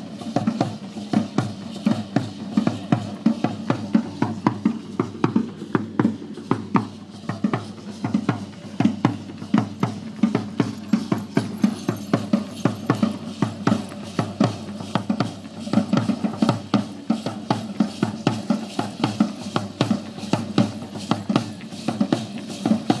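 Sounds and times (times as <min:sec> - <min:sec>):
drums beating driving rhythm: 0:00.0 - 0:23.0.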